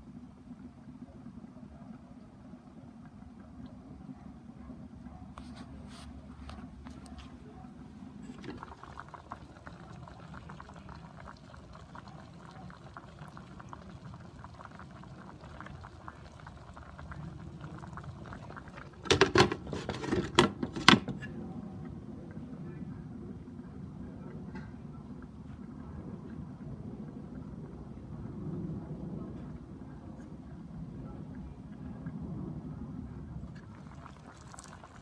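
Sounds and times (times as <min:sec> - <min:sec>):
liquid bubbling in skillet: 0:00.2 - 0:22.5, 0:23.3 - 0:35.0.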